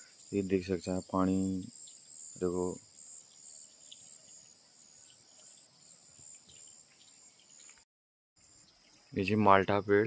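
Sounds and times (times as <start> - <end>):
crickets chirring: 0.0 - 7.8, 8.4 - 10.0.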